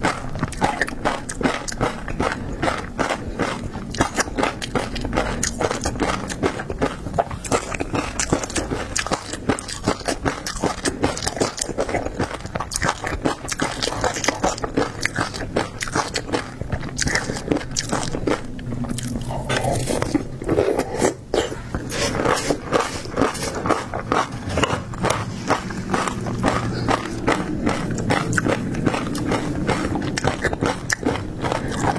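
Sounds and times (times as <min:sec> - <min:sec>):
biting and wet chewing: 0:00.0 - 0:31.9.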